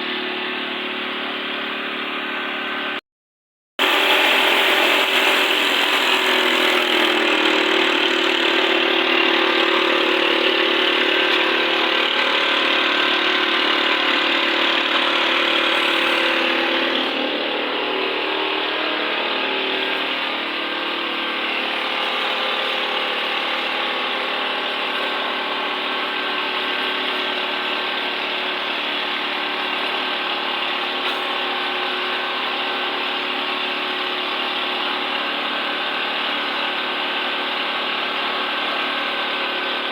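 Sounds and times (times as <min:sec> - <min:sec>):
concrete mixer engine drone: 0:00.0 - 0:03.0, 0:03.8 - 0:39.9.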